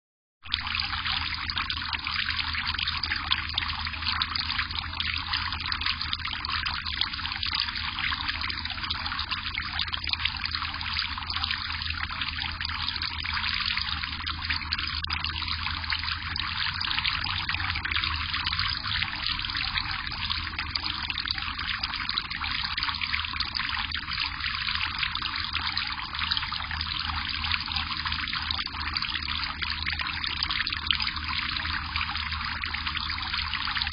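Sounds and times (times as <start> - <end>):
water trickling and splashing: 0.4 - 33.9.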